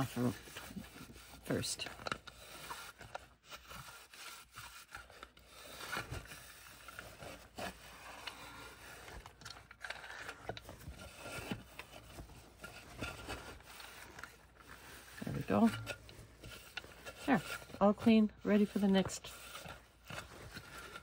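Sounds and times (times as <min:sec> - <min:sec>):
towel scrubbing plastic bowl: 0:00.0 - 0:21.0.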